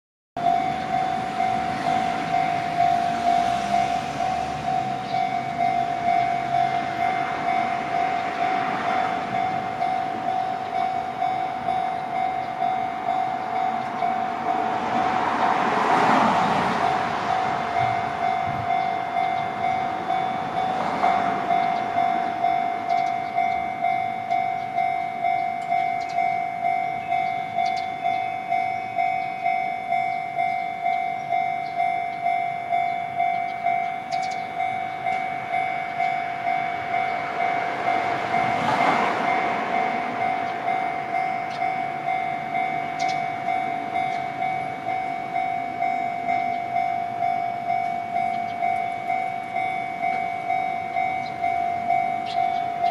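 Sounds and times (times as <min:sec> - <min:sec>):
level crossing alarm clanging: 0:00.4 - 0:52.9
passing train rush: 0:00.4 - 0:52.9.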